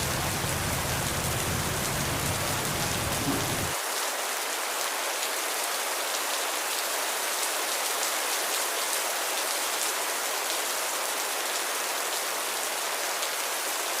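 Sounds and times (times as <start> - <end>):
gentle rain falling: 0.0 - 14.0.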